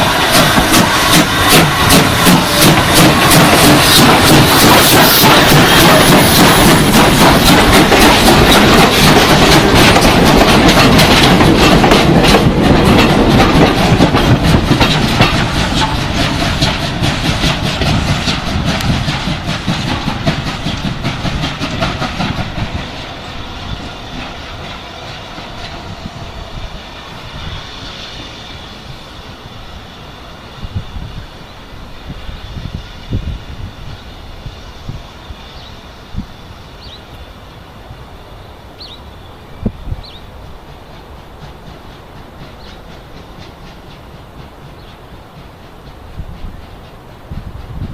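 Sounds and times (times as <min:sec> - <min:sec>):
train wheels clacking on rails: 0:00.0 - 0:38.1, 0:39.6 - 0:47.9.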